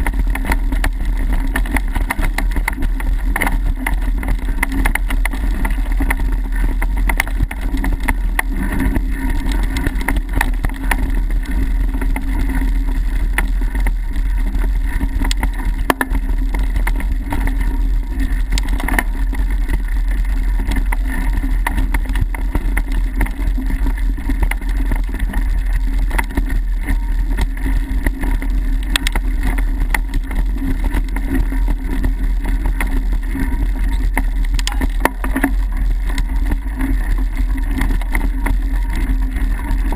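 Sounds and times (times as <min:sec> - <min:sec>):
bike clicks and rattles: 0:00.0 - 0:39.9
bike rumble on dirt trail: 0:00.0 - 0:39.9.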